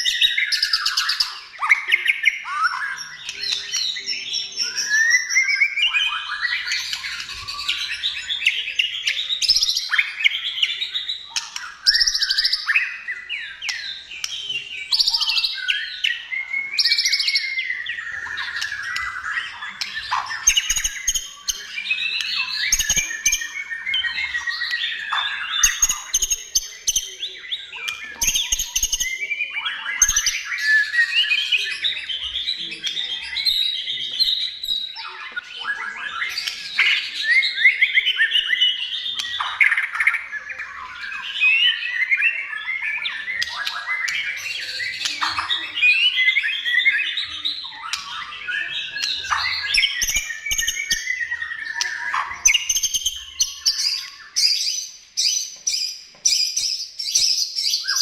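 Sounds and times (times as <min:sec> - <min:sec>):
songbird singing whistled phrases: 0:00.0 - 0:58.0.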